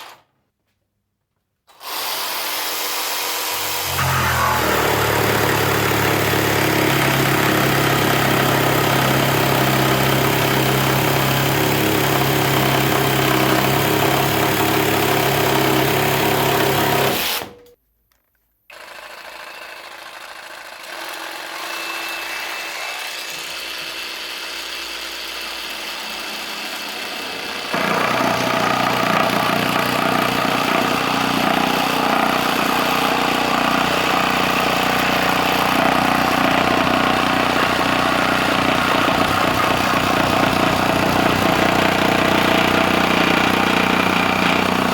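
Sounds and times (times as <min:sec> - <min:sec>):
cordless jigsaw motor running: 0:01.7 - 0:17.6, 0:18.7 - 0:44.9.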